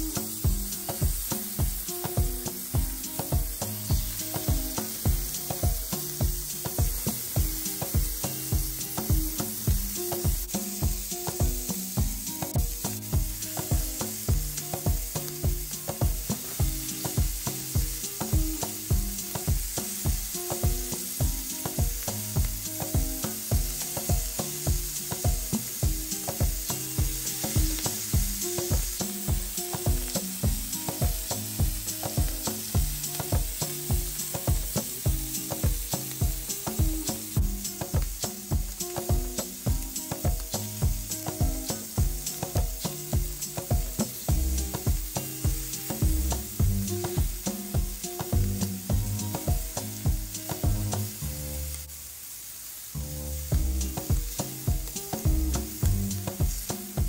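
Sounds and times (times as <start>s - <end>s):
background music with beat: 0.0s - 51.9s, 53.4s - 57.0s
food sizzling in a pan: 0.0s - 57.0s.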